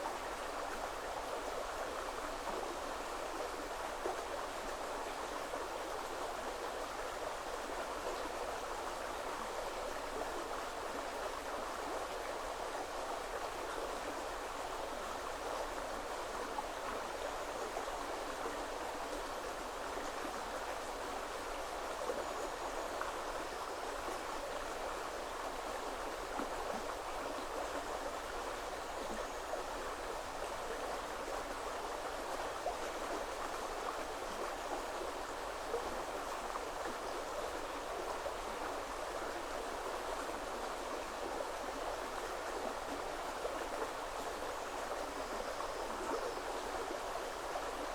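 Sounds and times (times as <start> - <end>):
river flowing: 0.0 - 47.9.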